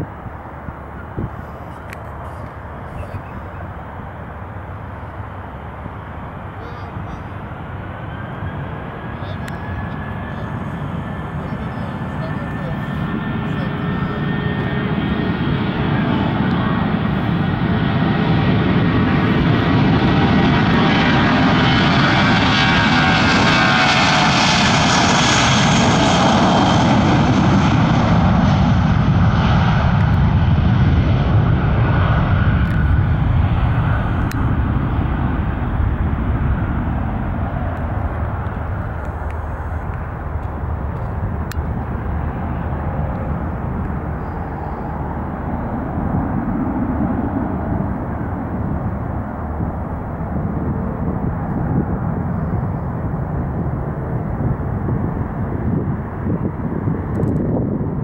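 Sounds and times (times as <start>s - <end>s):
jet engines at takeoff: 0.0s - 58.0s.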